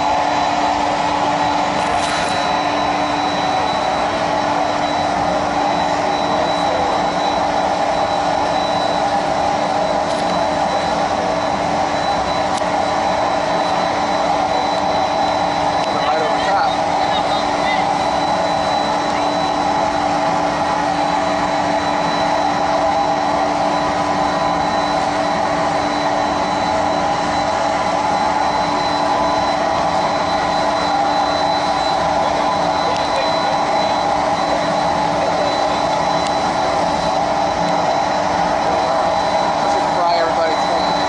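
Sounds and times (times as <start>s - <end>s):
ship machinery drone: 0.0s - 41.0s
thin high whine: 0.0s - 41.0s.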